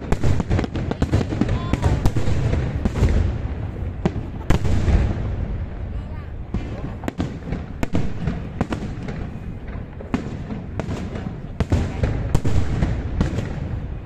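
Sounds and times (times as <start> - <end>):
fireworks bursting with sharp bangs: 0.0 - 14.0.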